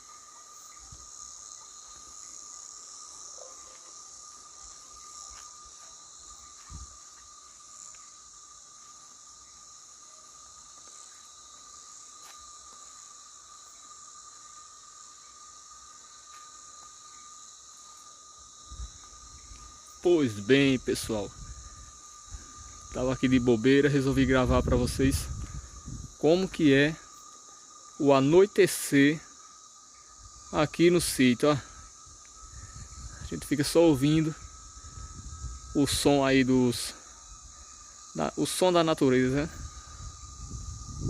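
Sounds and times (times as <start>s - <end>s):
crickets and insects chorus: 0.0s - 41.0s.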